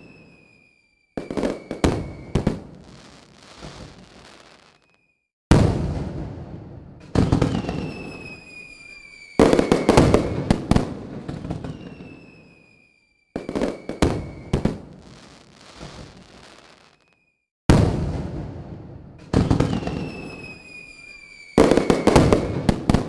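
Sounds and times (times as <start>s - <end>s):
firework whistles: 0.0s - 5.3s, 7.2s - 17.5s, 19.4s - 23.0s
firework bangs with crackle: 0.0s - 23.0s.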